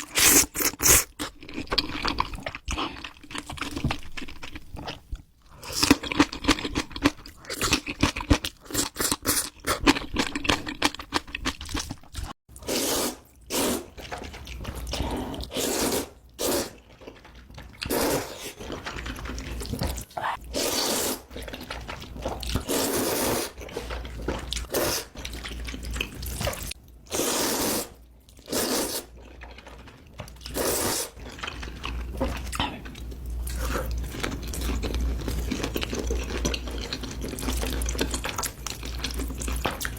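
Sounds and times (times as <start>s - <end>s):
wet chewing and crunchy bites: 0.0s - 27.1s, 28.0s - 39.9s.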